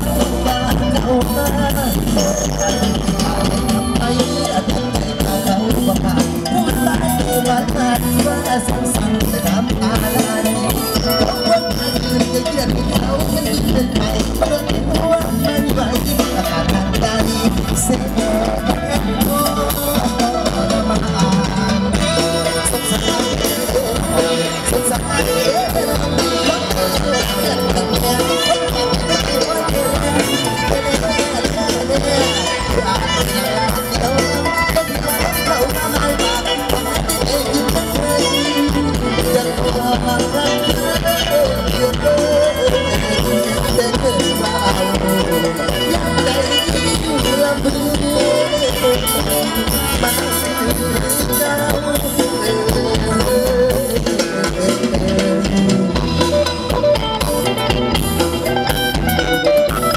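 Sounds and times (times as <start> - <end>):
drum-kit beat: 0.0 - 59.9
live band music over loudspeakers: 0.0 - 59.9
person singing: 0.0 - 59.9.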